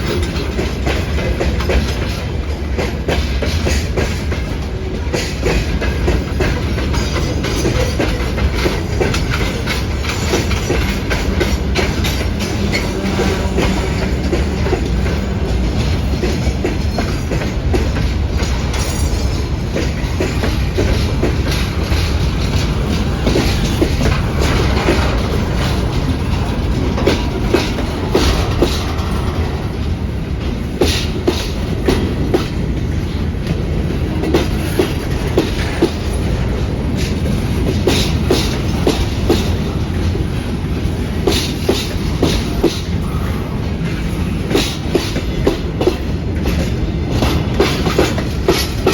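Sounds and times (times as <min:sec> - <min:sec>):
freight train rumble: 0:00.0 - 0:48.9
wheels clacking over rail joints: 0:00.0 - 0:48.9.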